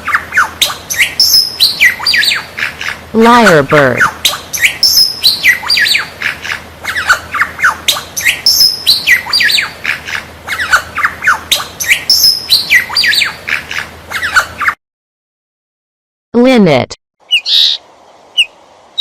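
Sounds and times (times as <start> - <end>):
lyrebird calling: 0.0 - 14.8, 17.2 - 19.0.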